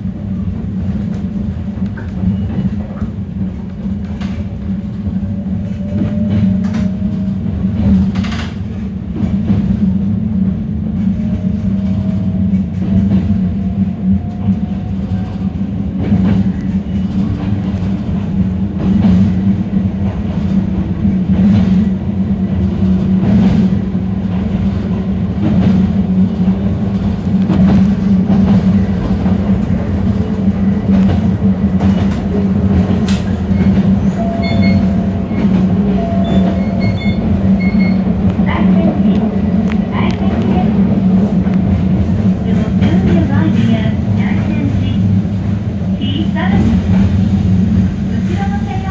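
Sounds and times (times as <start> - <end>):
train wheels and motors rumbling: 0.0 - 48.9.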